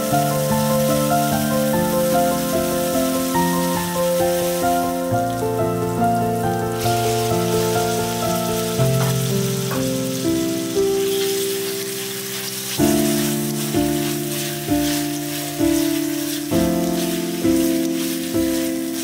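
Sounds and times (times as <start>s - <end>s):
shrimp sizzling in oil: 0.0s - 19.0s
slow instrumental music: 0.0s - 19.0s.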